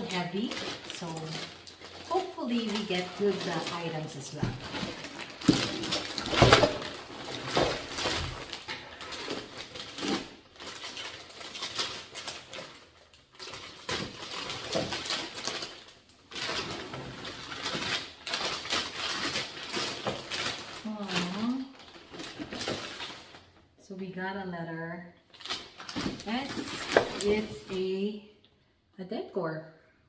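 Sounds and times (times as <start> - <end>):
shopping bag rustling: 0.0 - 23.5, 25.3 - 27.8.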